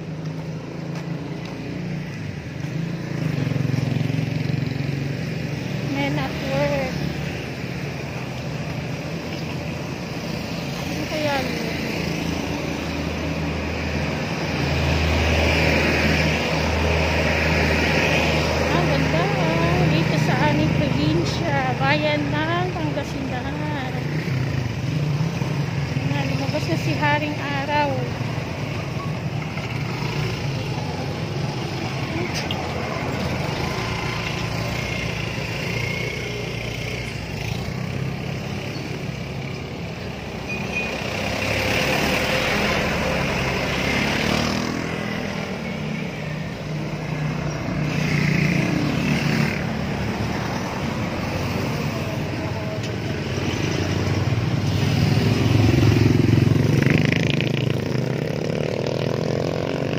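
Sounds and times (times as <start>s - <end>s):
motorcycle engines passing: 0.0s - 59.9s
street traffic: 0.0s - 59.9s.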